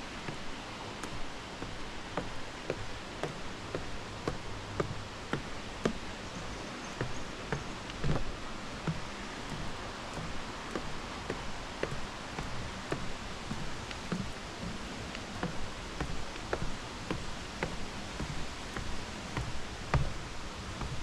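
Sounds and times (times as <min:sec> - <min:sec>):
footsteps on dirt track: 0:00.0 - 0:21.0
steady background hiss: 0:00.0 - 0:21.0.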